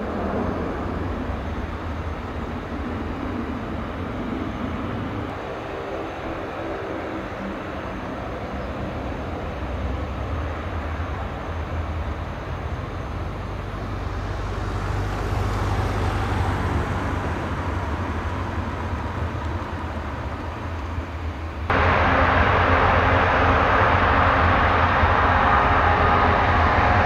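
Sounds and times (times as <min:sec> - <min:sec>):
aircraft engine rushing: 0:00.0 - 0:27.0.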